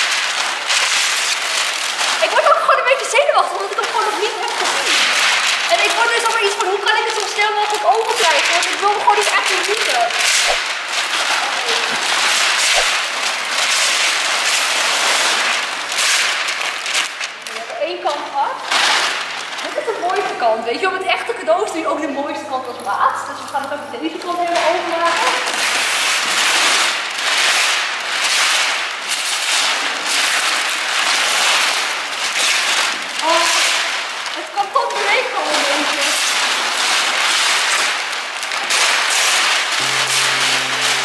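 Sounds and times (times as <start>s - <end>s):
wrapping paper tearing: 0.0s - 20.5s, 24.2s - 41.0s.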